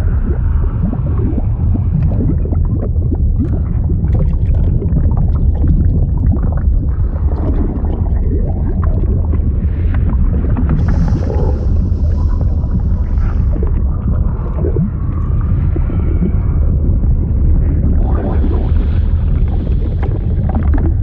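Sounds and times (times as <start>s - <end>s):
deep steady rumble: 0.0s - 21.0s
liquid bubbling and gurgling: 0.0s - 21.0s.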